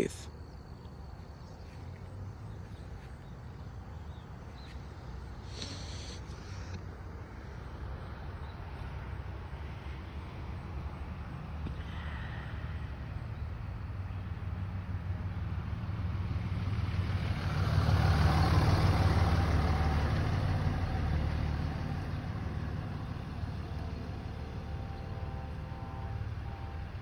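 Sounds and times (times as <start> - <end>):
vehicle passing by: 1.4 - 27.0.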